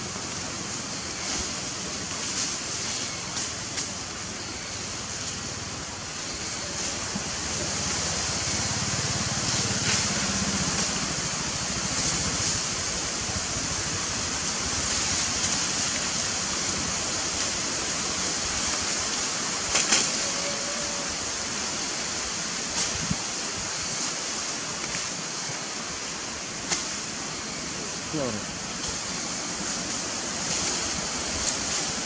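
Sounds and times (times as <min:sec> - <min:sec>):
steady hissing noise: 0:00.0 - 0:32.0.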